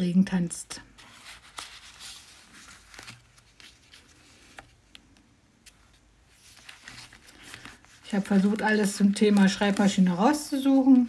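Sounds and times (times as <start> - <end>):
paper rustling: 0.9 - 11.0.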